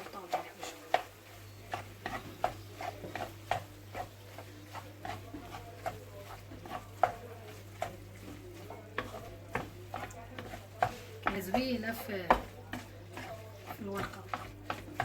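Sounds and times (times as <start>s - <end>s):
spoon tapping and scraping cookware: 0.0s - 15.0s.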